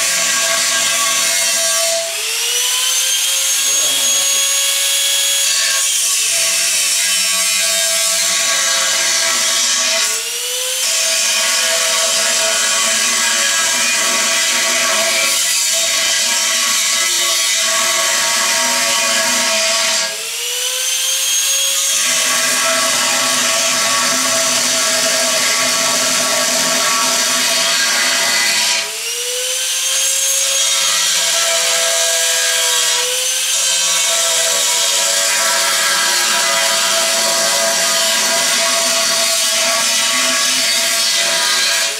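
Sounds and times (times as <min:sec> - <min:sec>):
angle grinder cutting steel: 0:00.0 - 0:41.9.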